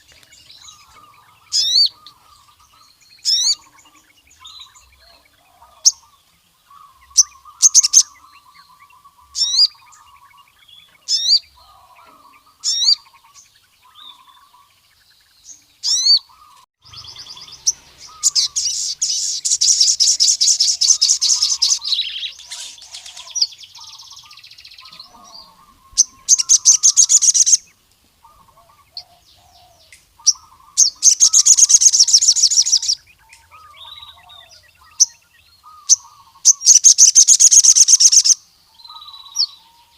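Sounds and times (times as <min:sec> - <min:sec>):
fast dense bird trills: 0:00.0 - 0:39.9.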